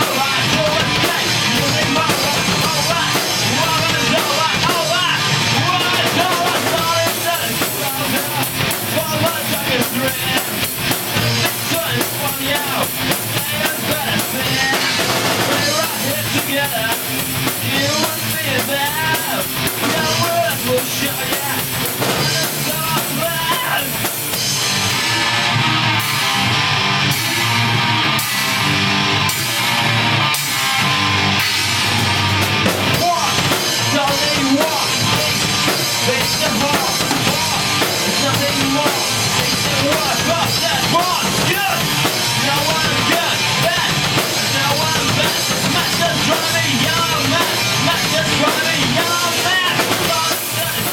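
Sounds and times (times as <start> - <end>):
heavy drums and cymbals: 0.0 - 50.9
punk rock band playing: 0.0 - 50.9.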